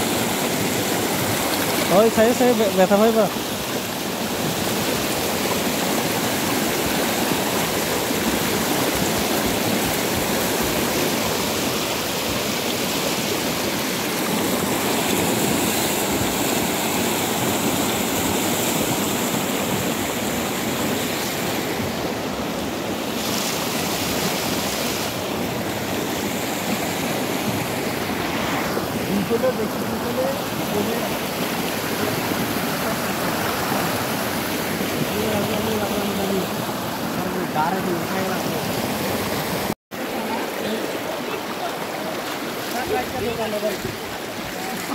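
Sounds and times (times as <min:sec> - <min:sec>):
river rushing over rapids: 0:00.0 - 0:44.9.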